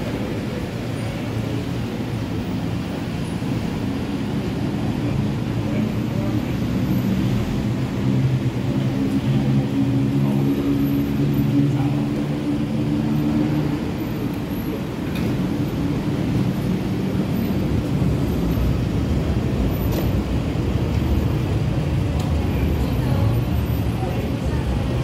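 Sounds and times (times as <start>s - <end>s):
low engine drone: 0.0s - 25.0s
road noise rumble: 0.0s - 25.0s.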